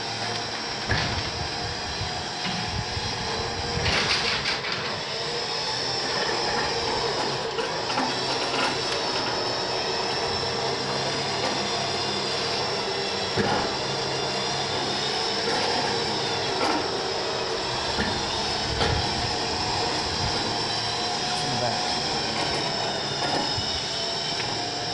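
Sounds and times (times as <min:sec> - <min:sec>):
electric winch running: 0:00.0 - 0:24.9.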